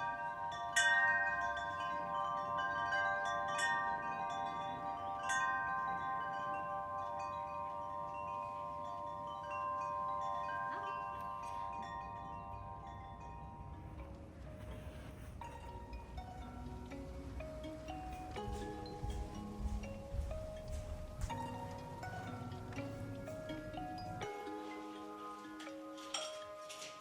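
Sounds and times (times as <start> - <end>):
chimes ringing: 0.0 - 27.0.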